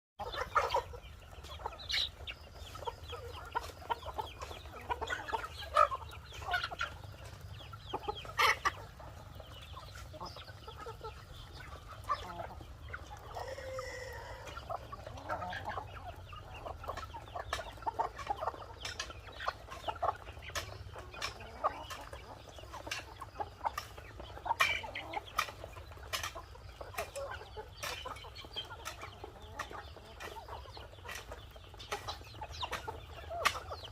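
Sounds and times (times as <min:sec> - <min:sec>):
chickens clucking: 0:00.2 - 0:33.9.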